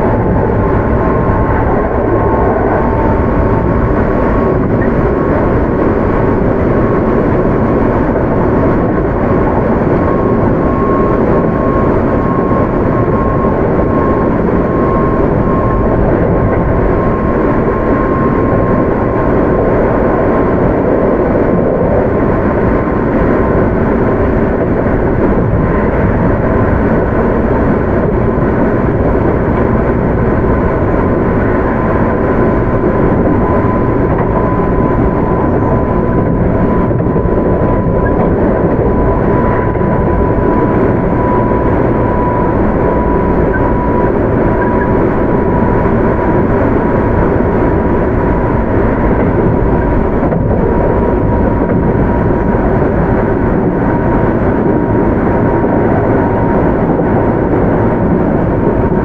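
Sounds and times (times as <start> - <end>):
faint steady whine: 0.0 - 59.0
train wheels rumbling on rail: 0.0 - 59.0.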